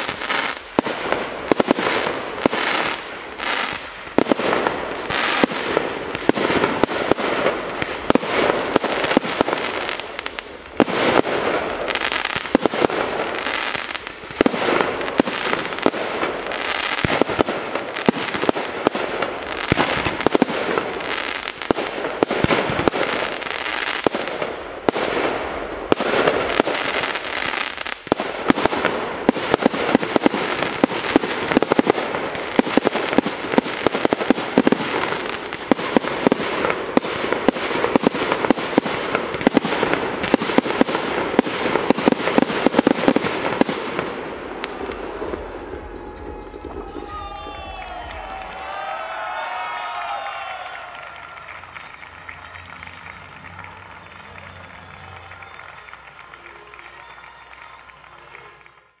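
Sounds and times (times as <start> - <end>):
fireworks bangs: 0.0 - 59.0
fireworks crackle and rumble: 0.0 - 59.0.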